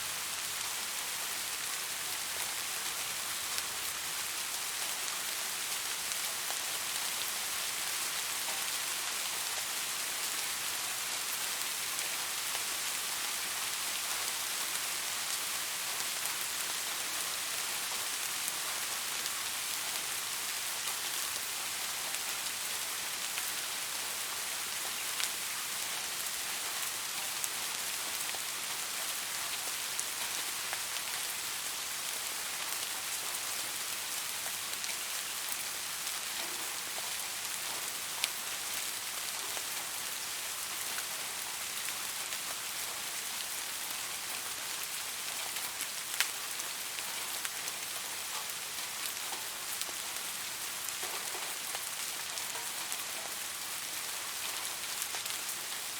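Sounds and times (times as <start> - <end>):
steady rain hissing: 0.0 - 55.9.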